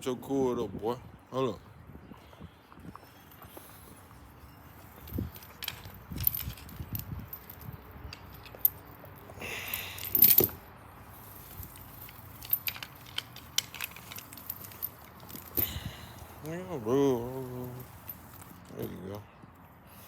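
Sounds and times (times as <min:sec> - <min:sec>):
metal chain clinking and rattling: 0:03.0 - 0:19.1
chain scraping: 0:03.1 - 0:19.2.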